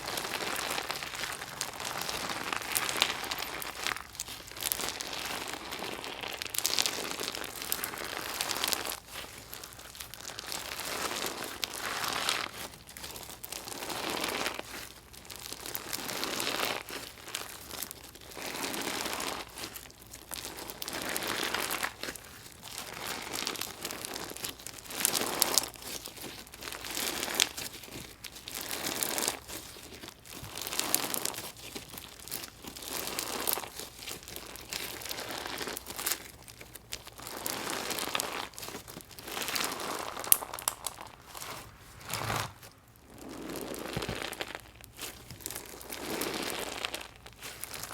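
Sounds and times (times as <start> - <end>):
crunchy slime crackling: 0.0 - 47.9.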